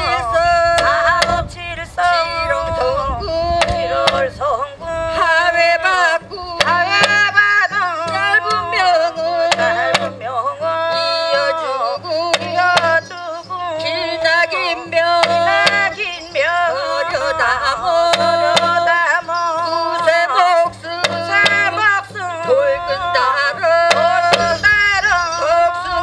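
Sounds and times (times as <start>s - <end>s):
drum beats: 0.0s - 1.5s, 3.5s - 4.4s, 5.2s - 16.8s, 17.7s - 25.4s
sliding sung chant: 0.0s - 26.0s.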